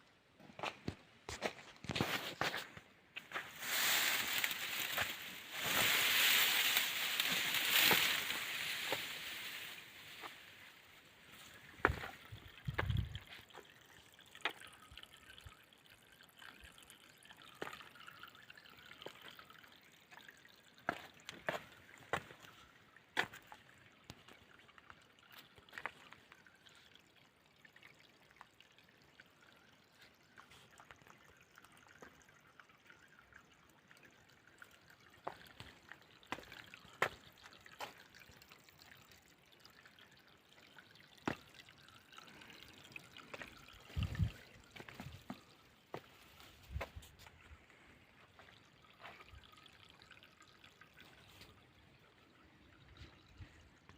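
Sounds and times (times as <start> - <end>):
water trickling and dripping: 0.1 - 53.9
small splashes: 2.0 - 53.9.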